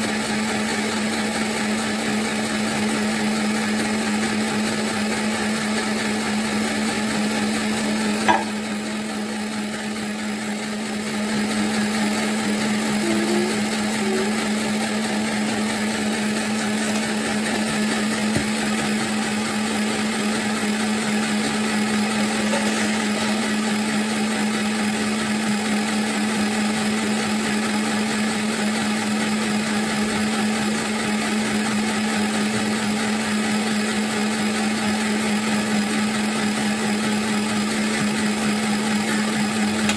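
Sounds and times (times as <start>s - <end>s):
blender motor humming: 0.0s - 39.9s.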